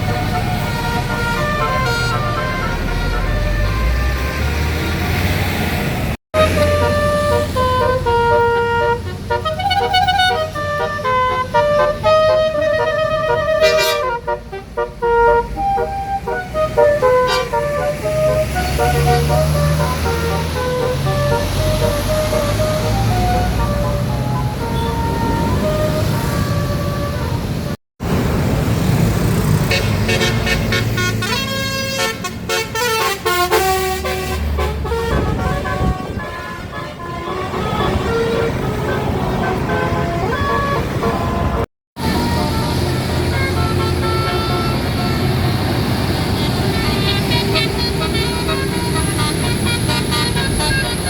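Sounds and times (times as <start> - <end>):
bus horn playing a tune: 0.0 - 5.0, 6.4 - 27.8, 29.6 - 51.0
low traffic rumble: 0.0 - 51.0.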